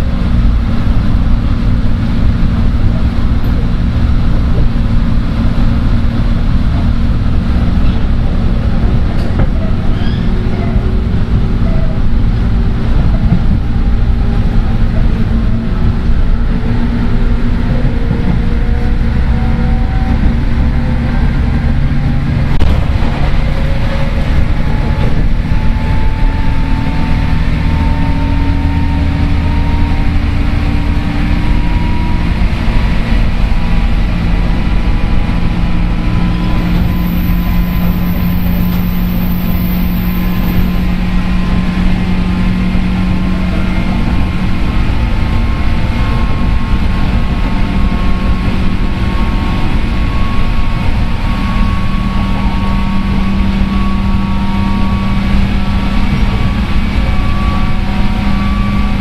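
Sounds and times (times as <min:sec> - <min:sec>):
train traction motors whining: 0:00.0 - 0:59.0
wheels rumbling on rails: 0:00.0 - 0:59.0.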